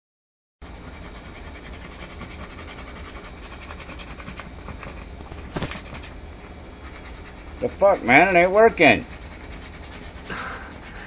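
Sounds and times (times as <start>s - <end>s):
scratch card being scratched: 0.6s - 11.0s.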